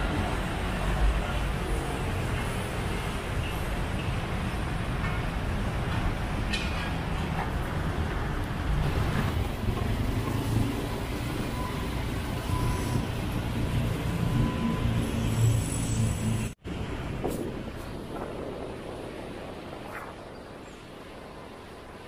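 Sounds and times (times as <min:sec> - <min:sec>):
street traffic passing: 0:00.0 - 0:22.0.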